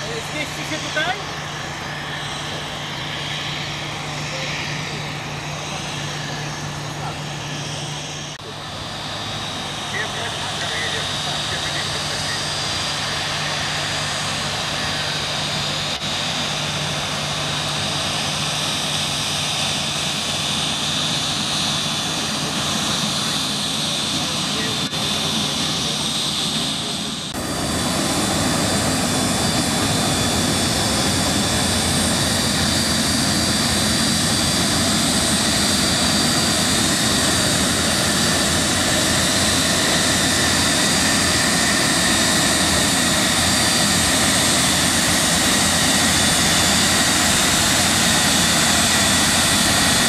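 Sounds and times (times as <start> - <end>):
jet engines whining: 0.0 - 50.0.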